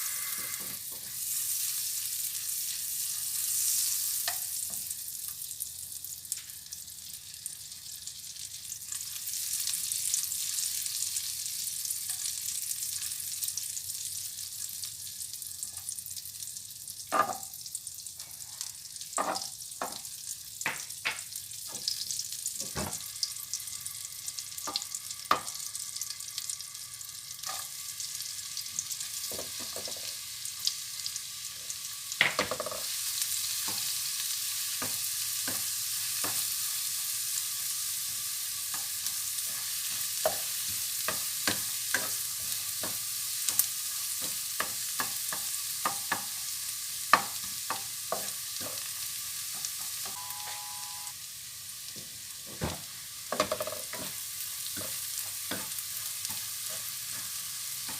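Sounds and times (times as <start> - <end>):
food sizzling in a frying pan: 0.0 - 57.9.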